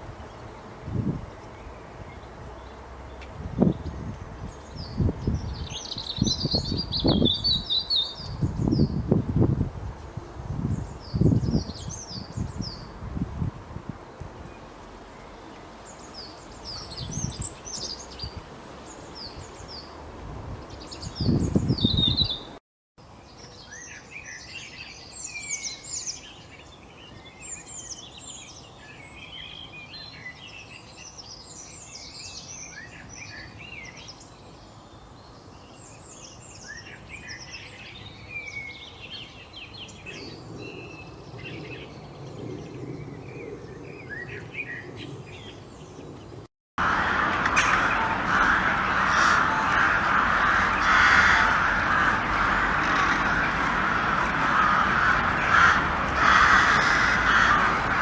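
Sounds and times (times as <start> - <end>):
songbirds chirping and trilling: 0.0 - 9.5, 10.4 - 13.2, 14.1 - 58.0.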